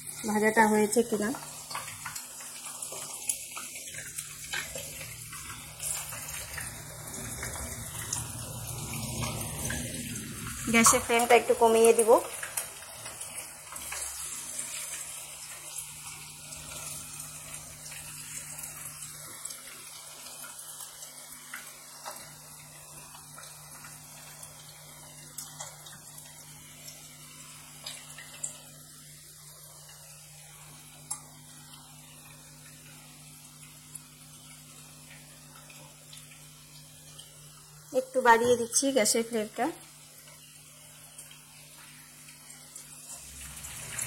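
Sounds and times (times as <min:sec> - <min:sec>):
oil sizzling and popping: 0:00.0 - 0:44.0.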